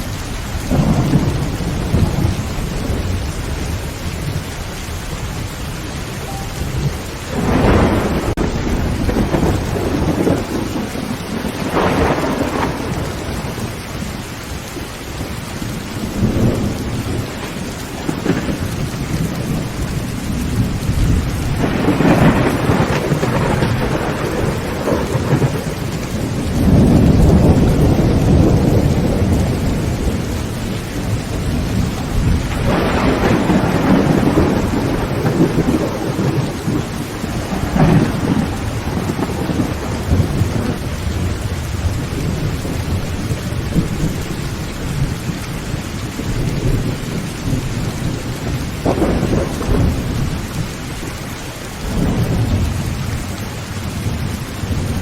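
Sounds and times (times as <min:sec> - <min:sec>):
thunder rolling: 0:00.0 - 0:14.7, 0:15.7 - 0:55.0
heavy rain on a tin roof: 0:00.0 - 0:55.0.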